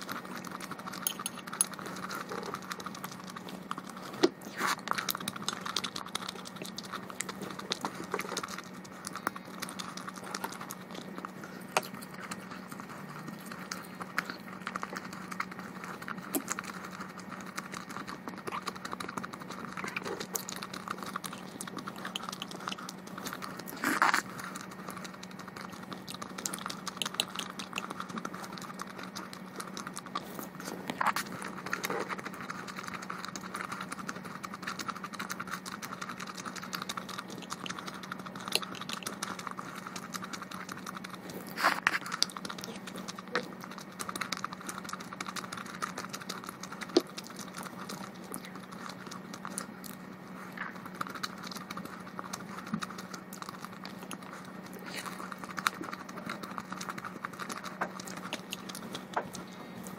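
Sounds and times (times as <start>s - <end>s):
wet clicky chewing: 0.0s - 59.9s.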